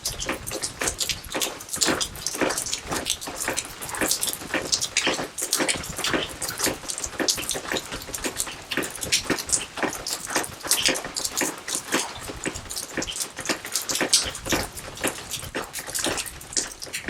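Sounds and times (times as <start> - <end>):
rain: 0.0 - 17.0.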